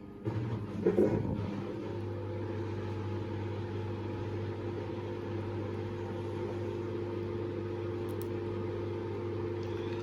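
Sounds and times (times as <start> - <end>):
washing machine humming: 0.0 - 10.0.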